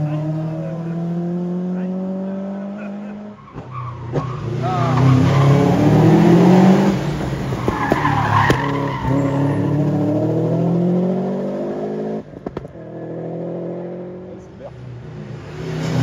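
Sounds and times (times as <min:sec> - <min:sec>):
tyres skidding: 0:00.0 - 0:14.6
car engine revving: 0:00.0 - 0:16.0.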